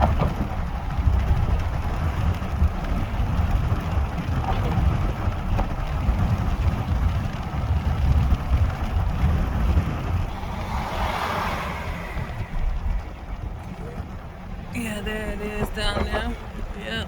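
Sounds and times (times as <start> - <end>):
road and engine rumble: 0.0 - 17.0
wind: 0.0 - 17.0.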